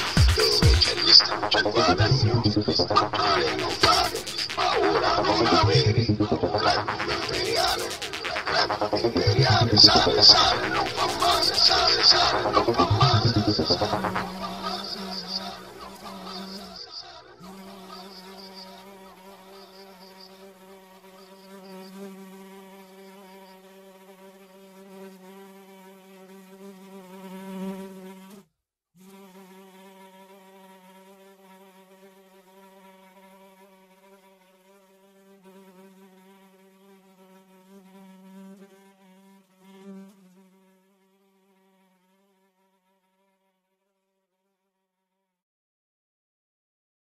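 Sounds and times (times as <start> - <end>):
fly buzzing: 0.0 - 43.8.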